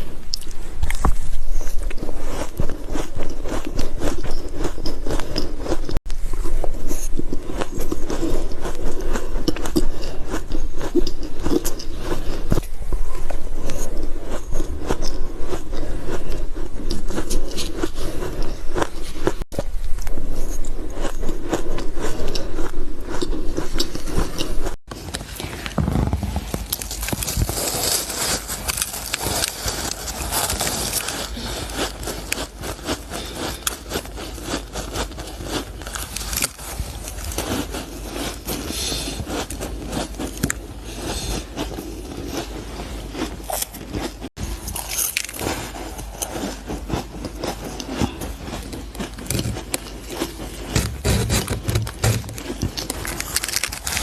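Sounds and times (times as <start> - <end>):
ice crunching in mouth: 6.8 - 54.0.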